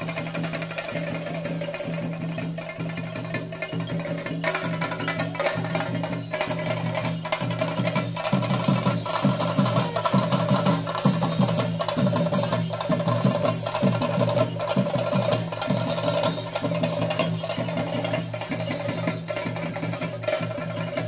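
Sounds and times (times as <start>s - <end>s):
drums beaten fast with sticks: 0.0s - 21.0s.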